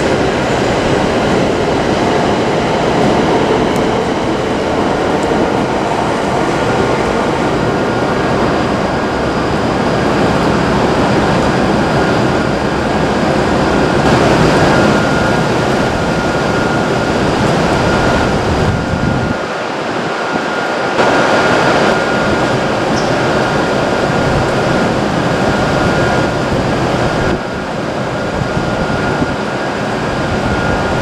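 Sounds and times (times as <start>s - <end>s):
high-speed train rushing past: 0.0s - 31.0s.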